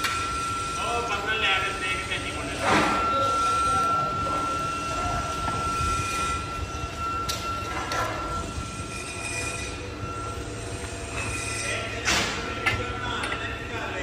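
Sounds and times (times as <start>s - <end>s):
furnaces and blowers roaring: 0.0s - 14.0s
steady high whine: 0.0s - 14.0s.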